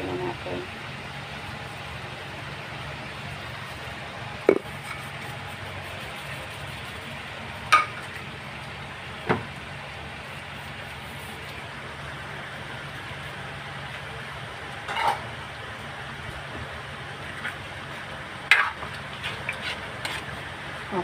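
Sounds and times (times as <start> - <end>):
pot simmering with a hiss: 0.0 - 21.0.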